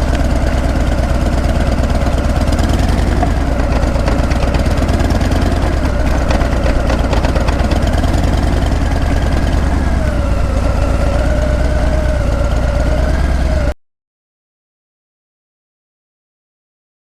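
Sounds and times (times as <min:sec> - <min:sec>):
motorcycle exhaust rumbling: 0:00.0 - 0:13.7.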